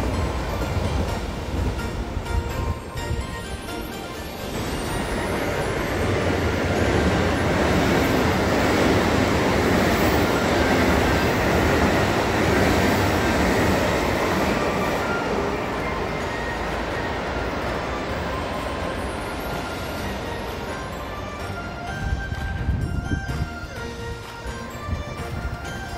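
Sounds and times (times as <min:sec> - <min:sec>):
passenger train passing: 0:00.0 - 0:25.9.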